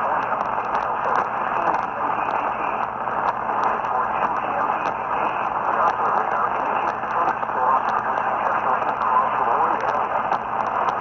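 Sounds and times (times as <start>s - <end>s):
radio static with crackles: 0.0s - 11.0s.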